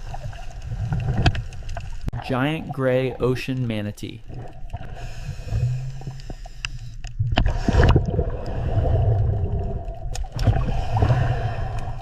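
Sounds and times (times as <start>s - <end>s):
gurgling water: 0.0s - 3.5s, 4.2s - 12.0s.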